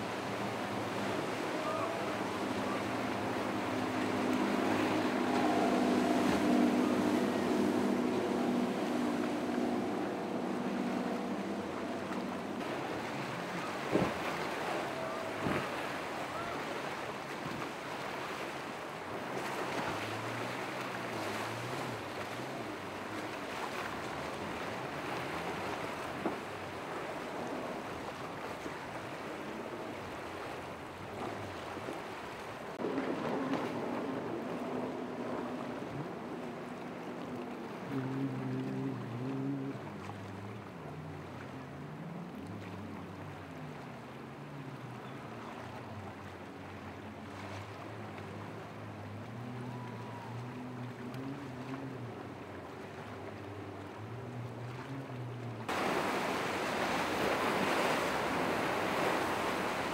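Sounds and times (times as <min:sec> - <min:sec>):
boat engine drone: 0:00.0 - 0:59.9
water wash and splashing: 0:00.0 - 0:59.9.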